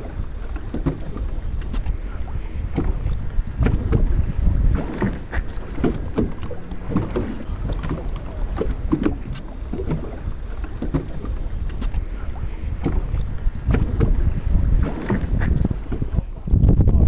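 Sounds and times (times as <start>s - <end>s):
water splashing against hull: 0.0s - 17.0s
wind rumble on microphone: 0.0s - 17.0s.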